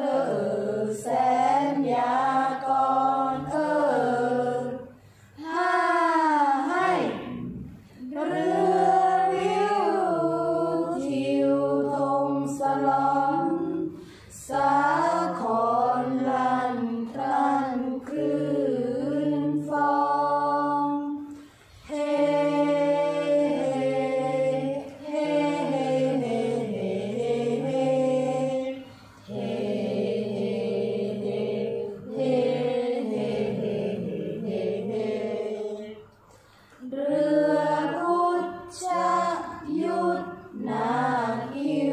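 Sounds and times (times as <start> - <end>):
group chanting verse together: 0.0 - 41.9.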